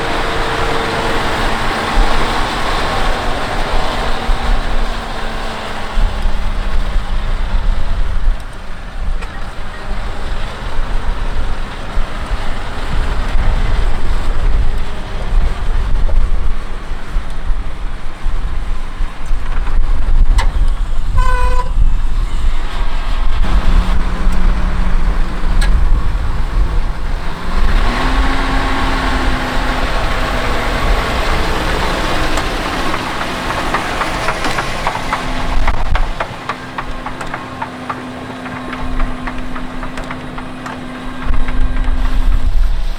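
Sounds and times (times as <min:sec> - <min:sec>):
tractor diesel engine rumbling: 0:00.0 - 0:42.9.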